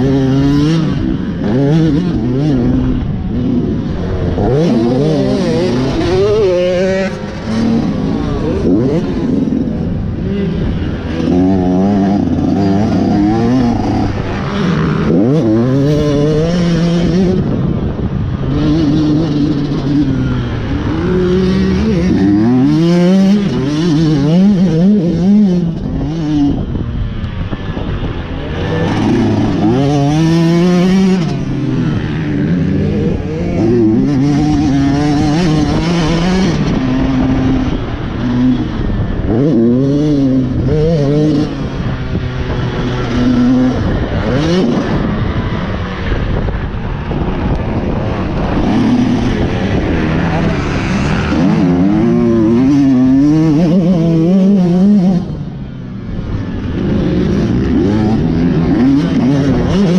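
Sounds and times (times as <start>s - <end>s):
motocross engine revving: 0.0s - 17.8s, 18.4s - 26.9s, 27.6s - 59.9s.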